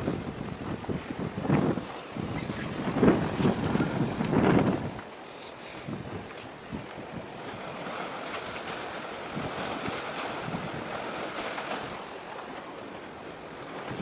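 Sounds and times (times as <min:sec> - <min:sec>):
sea waves: 0:00.0 - 0:14.0
wind buffeting microphone: 0:00.0 - 0:14.0.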